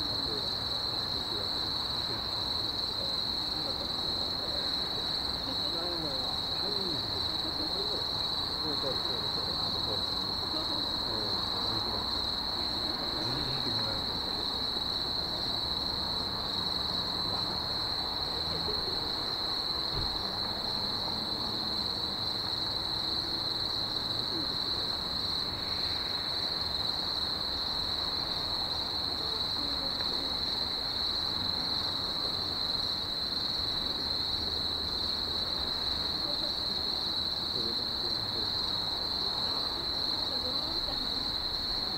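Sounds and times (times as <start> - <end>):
night insects chorus: 0.0 - 41.9.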